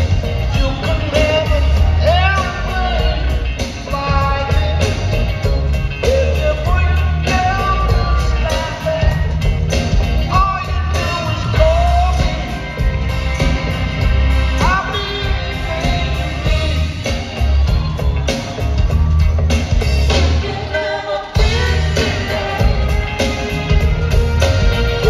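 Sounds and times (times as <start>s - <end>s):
man singing: 0.0s - 17.7s, 20.1s - 25.0s
drum beat: 0.0s - 20.5s, 21.4s - 25.0s
heavy bass: 0.0s - 25.0s
live rock band playing: 0.0s - 25.0s.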